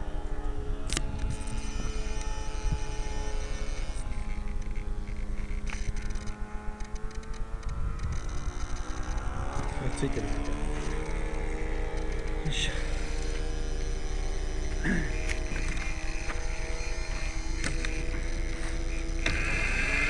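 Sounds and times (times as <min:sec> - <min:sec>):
helicopter motor humming: 0:00.0 - 0:20.0.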